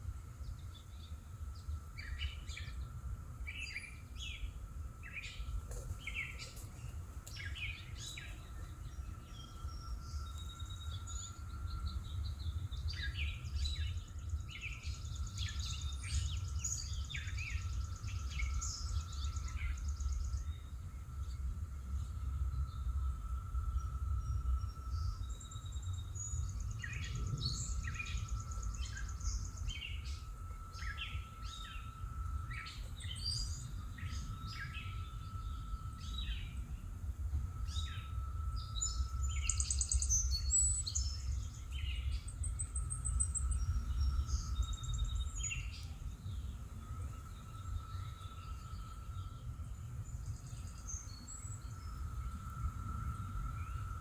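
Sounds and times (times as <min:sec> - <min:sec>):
faint held hum: 0:00.0 - 0:54.0
low outdoor rumble: 0:00.0 - 0:54.0
songbirds chirping and trilling: 0:00.0 - 0:54.0.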